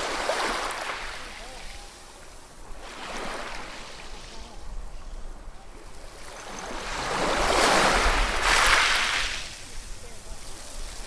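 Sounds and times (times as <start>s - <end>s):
ocean waves washing on shore: 0.0s - 11.0s.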